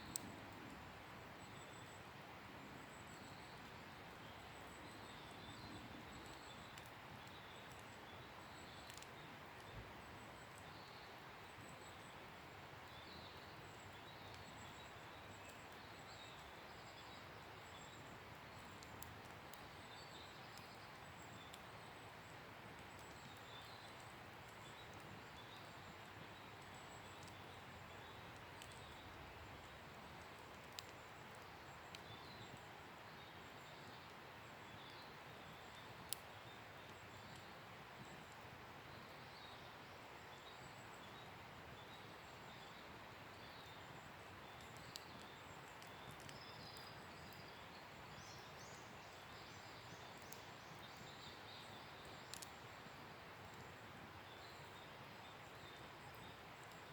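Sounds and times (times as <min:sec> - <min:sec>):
wood fire crackles and pops: 0:00.0 - 0:39.1, 0:40.7 - 0:48.5, 0:49.1 - 0:56.9.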